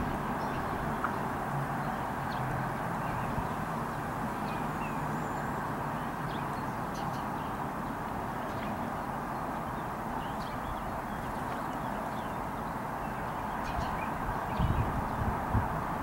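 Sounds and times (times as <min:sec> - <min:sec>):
distant traffic hum: 0:00.0 - 0:16.0.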